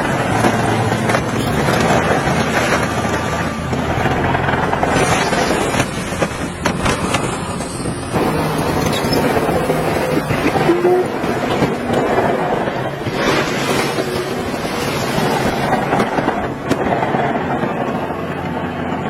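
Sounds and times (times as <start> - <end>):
heavy machinery diesel engine: 0.0 - 19.0
wind noise on microphone: 0.0 - 19.0.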